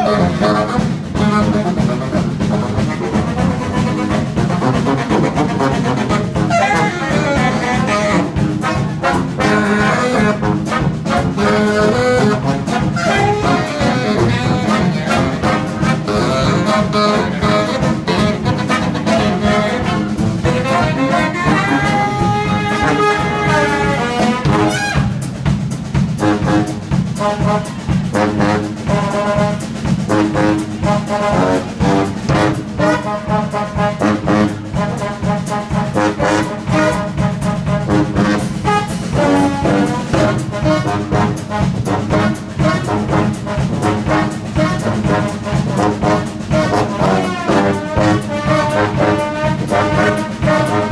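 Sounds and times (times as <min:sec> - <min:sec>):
brass band playing: 0:00.0 - 0:50.9
drum kit beat: 0:00.0 - 0:50.9.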